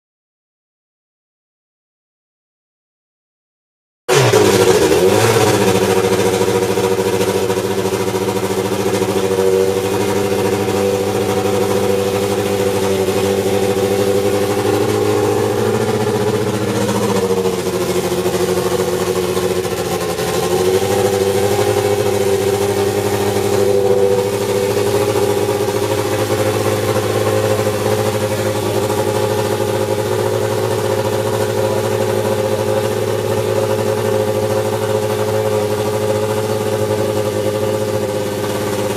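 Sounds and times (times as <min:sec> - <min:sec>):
racing engine lumpy idle: 0:04.1 - 0:38.9.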